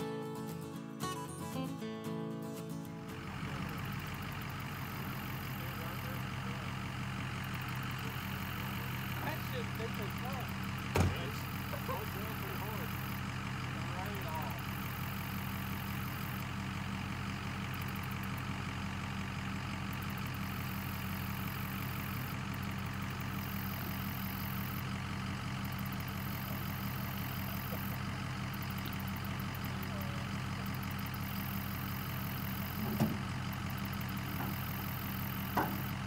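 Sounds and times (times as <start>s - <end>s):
pickup truck engine idling: 2.4s - 36.0s.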